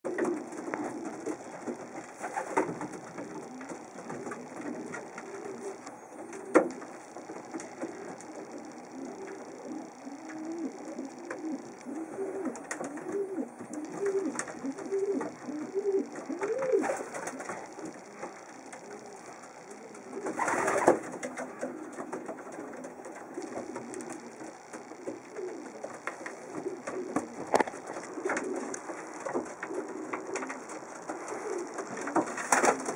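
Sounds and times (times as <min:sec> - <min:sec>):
pigeon cooing: 0:00.1 - 0:32.9.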